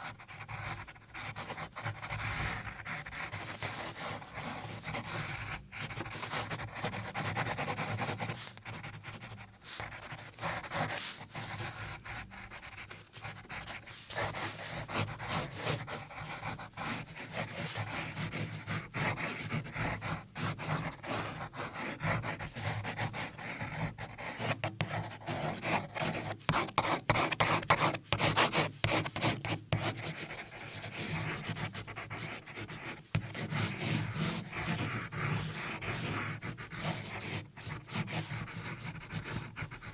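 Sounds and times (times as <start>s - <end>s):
rubbing and scratching on a surface: 0.0s - 39.9s.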